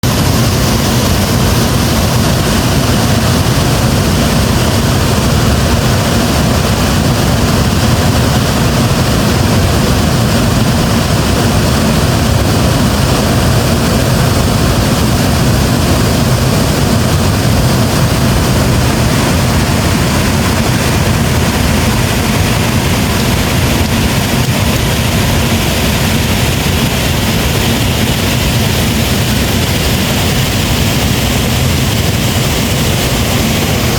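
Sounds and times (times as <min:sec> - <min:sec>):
waterfall rumbling: 0:00.0 - 0:33.9.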